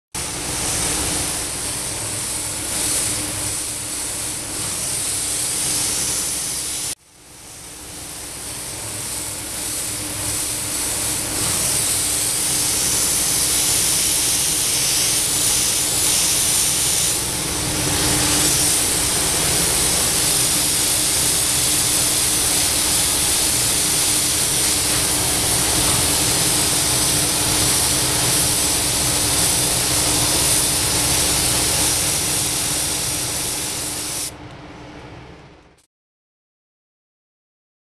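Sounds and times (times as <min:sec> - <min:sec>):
paint spray gun hissing: 0:00.2 - 0:34.3
steady low hum: 0:00.2 - 0:35.8.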